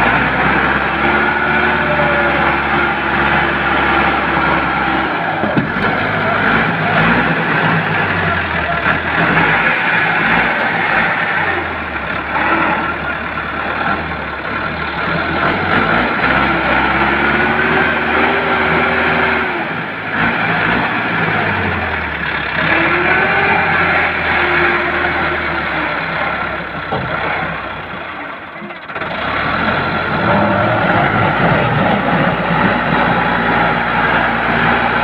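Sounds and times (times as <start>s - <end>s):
tractor diesel engine under load: 0.0s - 35.0s.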